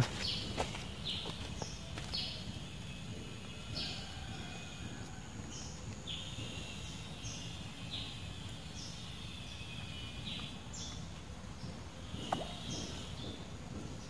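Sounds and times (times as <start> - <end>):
high insect drone: 0.1 - 14.0.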